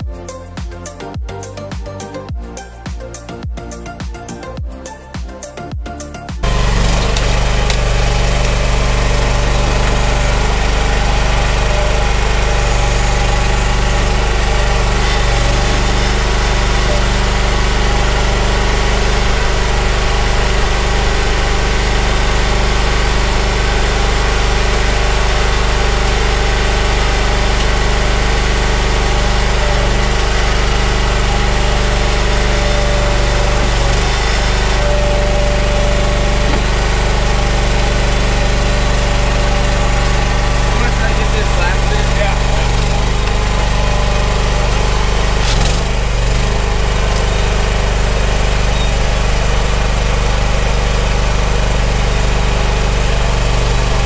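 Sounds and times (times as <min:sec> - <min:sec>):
skid steer engine idling: 0:06.4 - 0:54.0.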